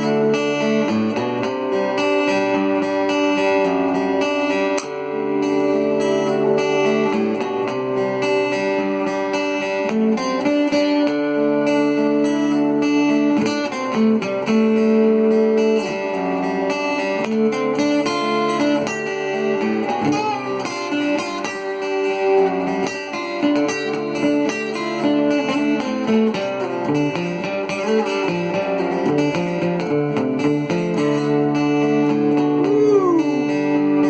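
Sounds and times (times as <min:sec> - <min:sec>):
amplified acoustic guitar: 0:00.0 - 0:34.0.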